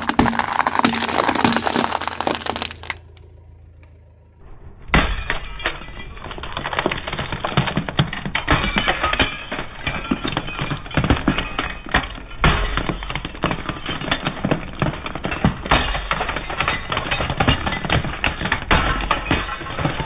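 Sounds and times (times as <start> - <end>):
glass tubes cracking under tyre: 0.0 - 3.2, 5.2 - 20.0.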